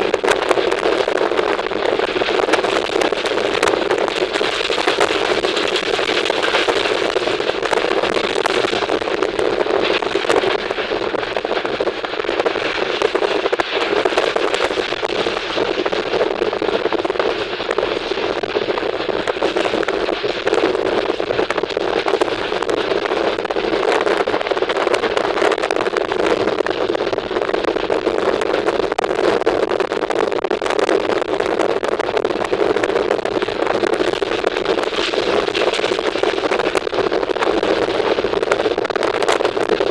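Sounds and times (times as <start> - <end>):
moving train crackling rush: 0.0 - 39.9.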